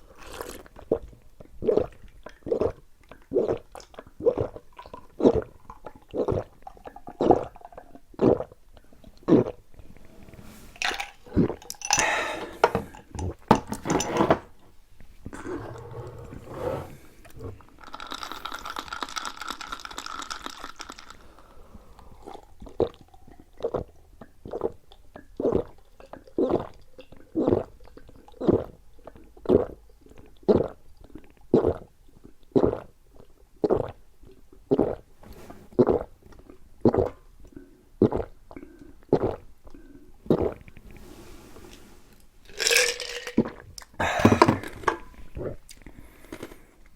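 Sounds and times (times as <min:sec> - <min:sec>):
person gulping a drink: 0:00.0 - 0:14.1, 0:15.2 - 0:16.4, 0:17.0 - 0:35.1, 0:35.7 - 0:40.9, 0:42.5 - 0:46.9.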